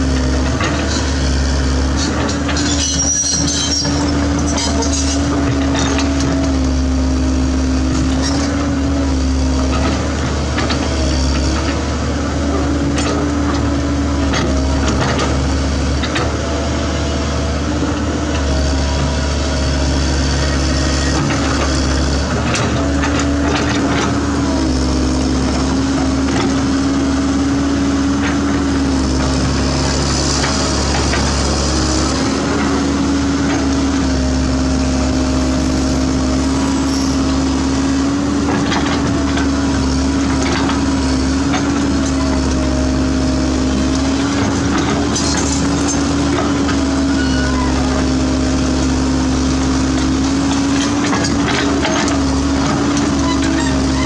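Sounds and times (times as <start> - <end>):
excavator diesel engine droning: 0.0 - 54.0.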